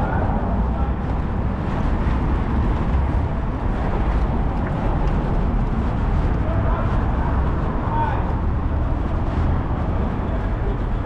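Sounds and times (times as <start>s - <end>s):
busy street traffic rumble: 0.0s - 11.0s.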